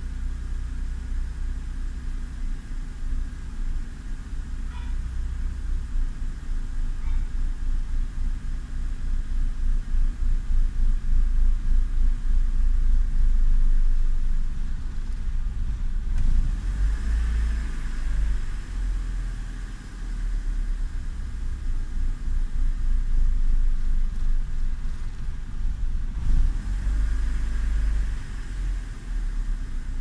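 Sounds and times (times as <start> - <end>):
car engine idling unsteadily: 0.0 - 30.0.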